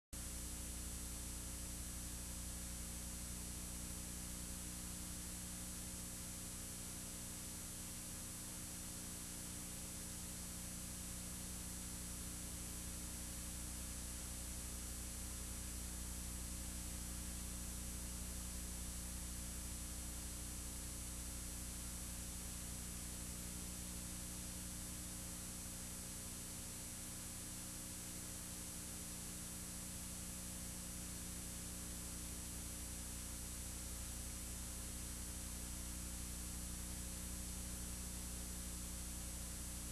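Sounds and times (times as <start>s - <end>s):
faint steady whine tones: 0.2s - 39.9s
low electrical hum: 0.2s - 39.9s.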